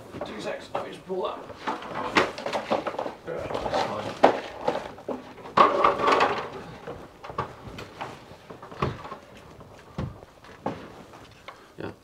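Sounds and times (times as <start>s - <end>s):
knocking and handling noise: 0.0s - 11.6s.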